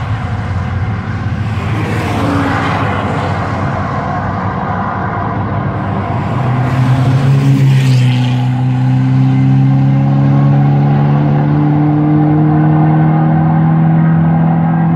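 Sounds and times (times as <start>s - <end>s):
car engine accelerating hard: 0.0s - 14.9s.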